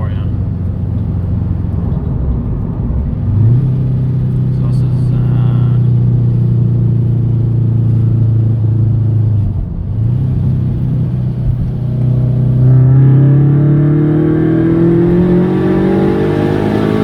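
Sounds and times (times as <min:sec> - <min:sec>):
car engine and exhaust cruising: 0:00.0 - 0:17.0.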